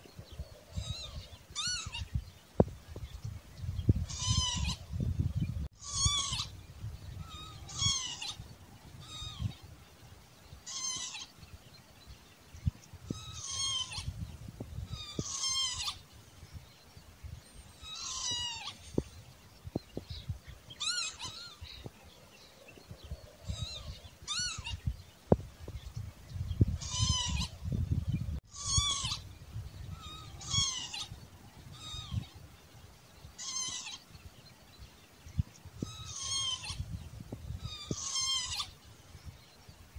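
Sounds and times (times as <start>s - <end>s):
lapwing calling: 0.3s - 2.3s, 3.9s - 9.8s, 10.6s - 11.5s, 12.7s - 16.4s, 17.6s - 32.5s, 33.2s - 34.3s, 35.4s - 39.4s.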